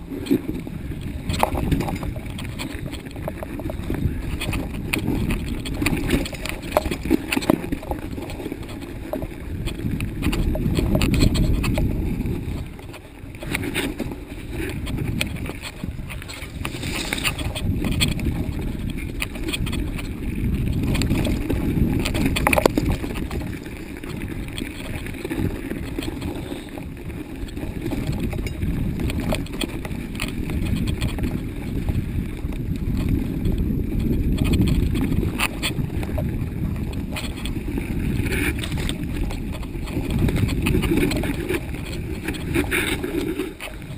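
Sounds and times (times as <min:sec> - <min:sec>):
bike clicks and knocks: 0:00.0 - 0:43.9
wind rumbling on microphone: 0:00.0 - 0:43.9.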